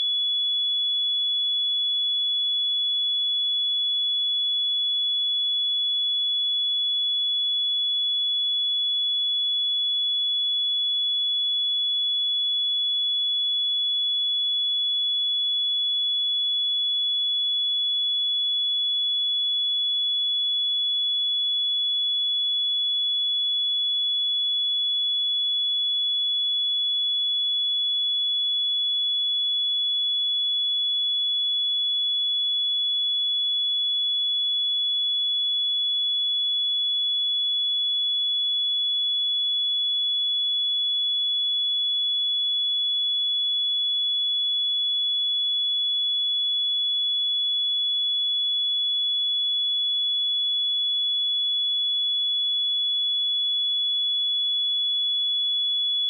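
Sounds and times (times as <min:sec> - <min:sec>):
sine-wave test tone: 0:00.0 - 0:56.0.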